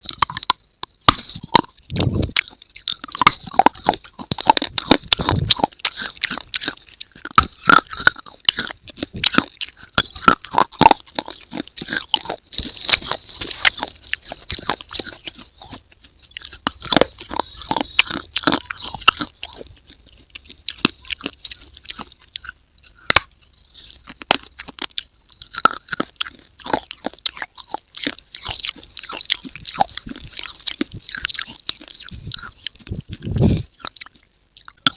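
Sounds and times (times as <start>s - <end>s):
crunching and chewing: 0.0s - 34.9s.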